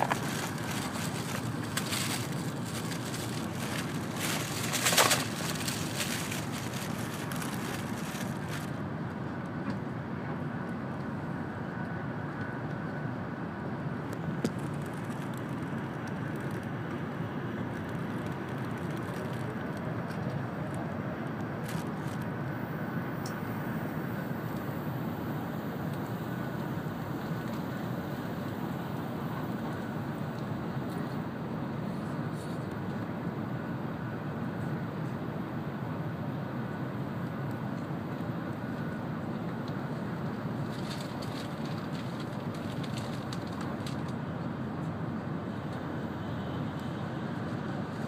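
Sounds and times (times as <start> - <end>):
train running rumble with hiss: 0.0 - 48.0.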